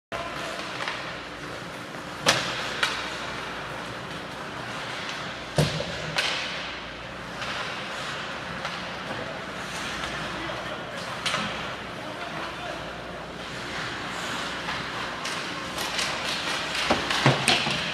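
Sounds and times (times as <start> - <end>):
hockey sticks and puck clacking: 0.2 - 12.6, 13.4 - 17.9.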